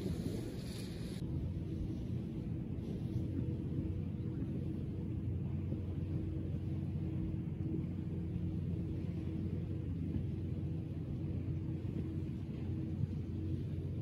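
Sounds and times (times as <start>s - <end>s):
motor engine droning: 0.0s - 14.0s.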